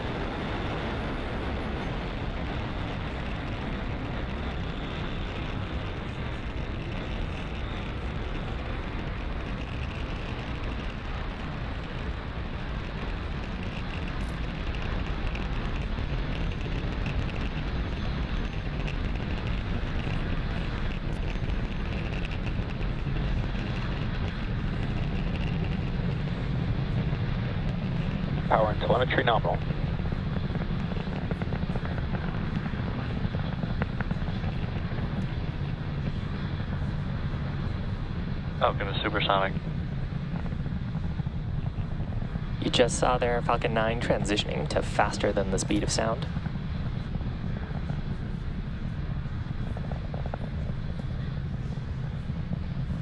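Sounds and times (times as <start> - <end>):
rocket engines deep rumble: 0.0 - 53.0.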